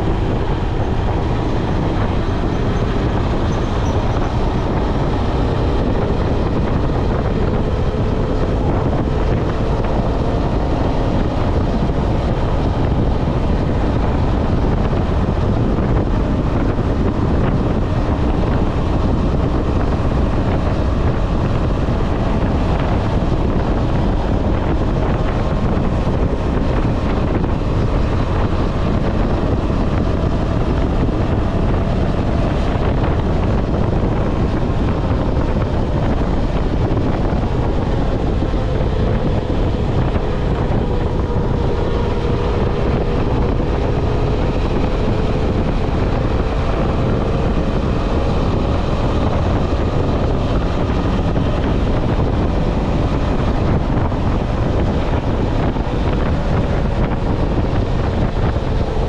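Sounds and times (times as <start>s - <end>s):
motorcycle engine running: 0.0s - 59.0s
wind rushing on microphone: 0.0s - 59.0s.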